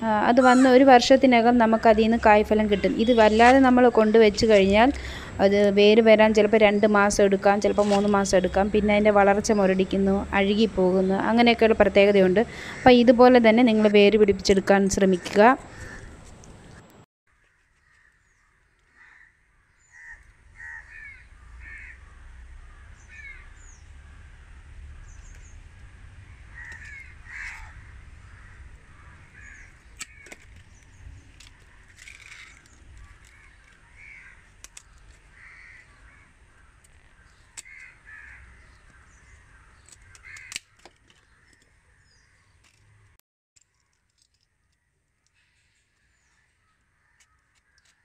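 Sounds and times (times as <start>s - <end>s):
birds calling: 0.1s - 17.0s, 17.6s - 44.0s.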